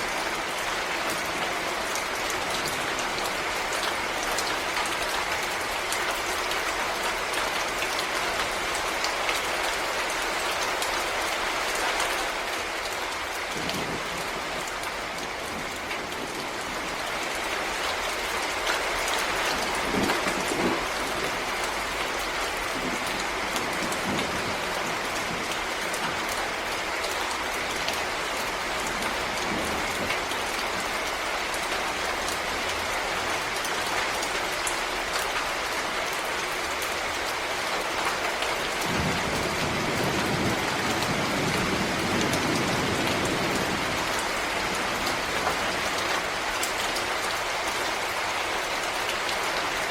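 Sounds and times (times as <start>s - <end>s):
rain falling in forest: 0.0s - 49.9s.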